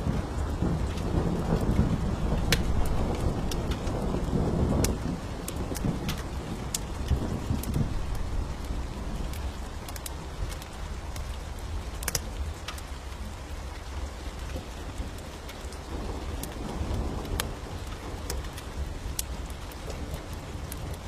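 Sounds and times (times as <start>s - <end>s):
low rumble of thunder: 0.0s - 21.0s
steady rain: 0.0s - 21.0s
wood fire crackling: 0.0s - 21.0s.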